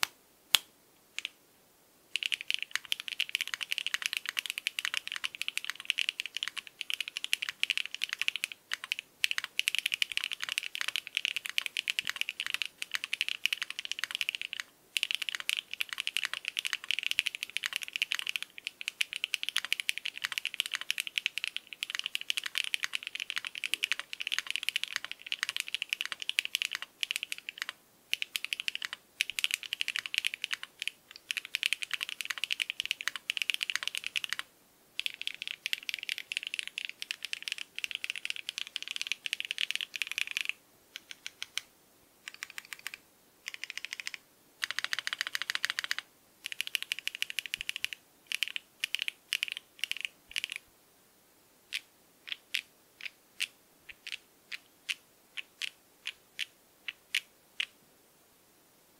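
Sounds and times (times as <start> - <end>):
mechanical keyboard typing: 2.2 - 41.7, 42.3 - 50.6, 51.7 - 57.7.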